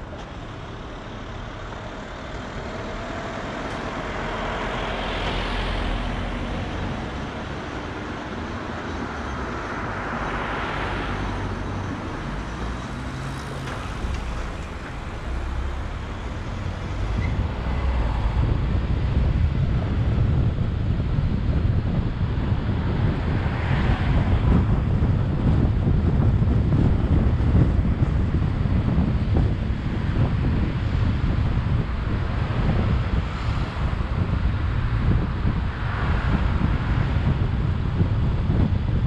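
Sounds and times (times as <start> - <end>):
deep engine rumble: 0.0 - 39.0
street traffic noise: 0.0 - 39.0
vehicles passing: 0.0 - 39.0.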